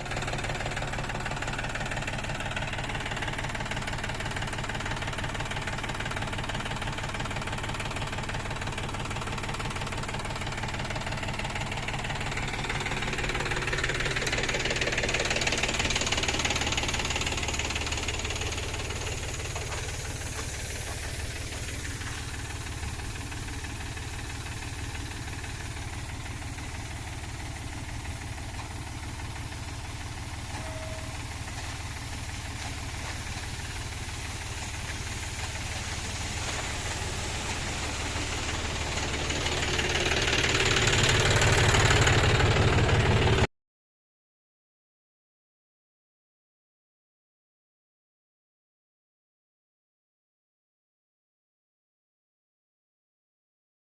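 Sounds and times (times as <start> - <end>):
combine harvester diesel engine: 0.0 - 43.5.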